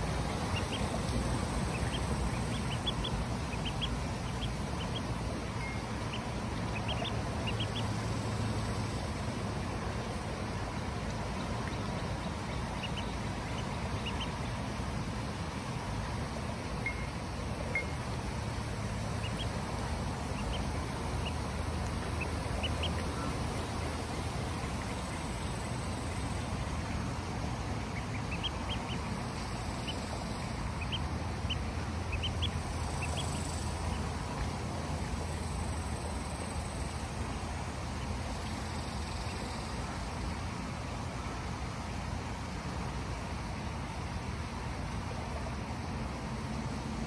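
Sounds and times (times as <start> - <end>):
ducklings peeping: 0.0 - 16.2, 16.8 - 40.6.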